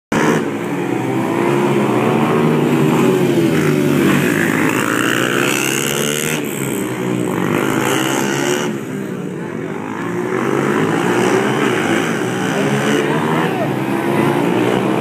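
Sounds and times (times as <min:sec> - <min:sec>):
dirt bike engines revving: 0:00.1 - 0:15.0
dirt bike passing close: 0:00.1 - 0:15.0.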